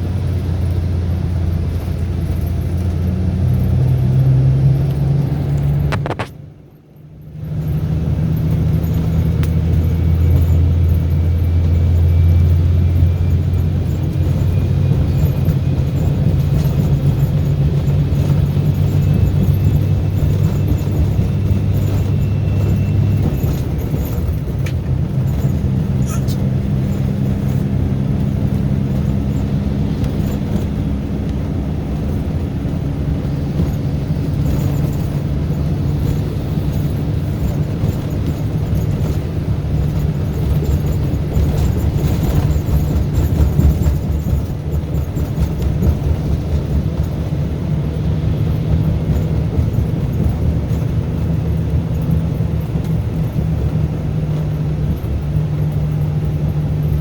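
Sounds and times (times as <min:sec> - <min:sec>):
diesel bus engine droning: 0:00.0 - 0:57.0.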